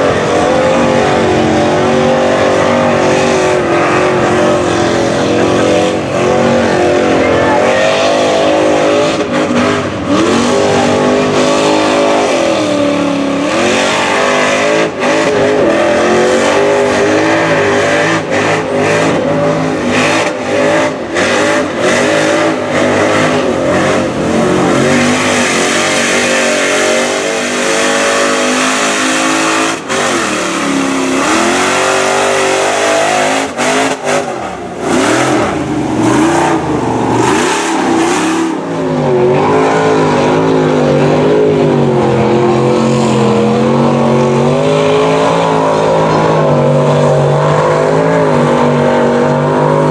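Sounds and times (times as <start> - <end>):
tires churning through mud: 0.0 - 49.9
truck engine revving hard: 0.0 - 49.9.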